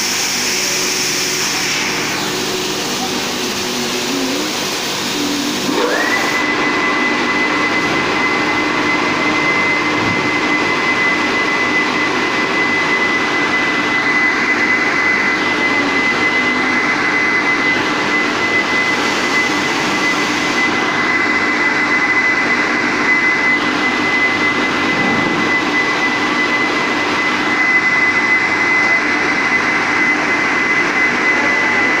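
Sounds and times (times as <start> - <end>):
high steady whine: 0.0 - 32.0
machine running: 0.0 - 32.0.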